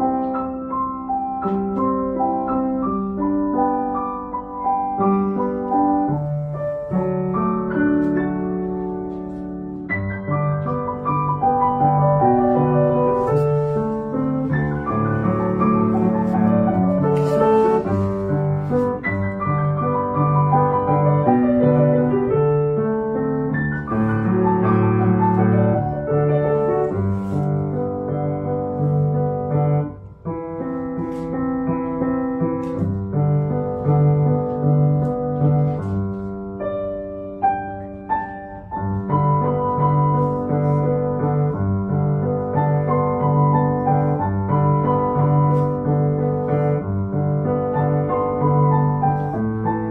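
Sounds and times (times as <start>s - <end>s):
solo grand piano: 0.0s - 49.9s.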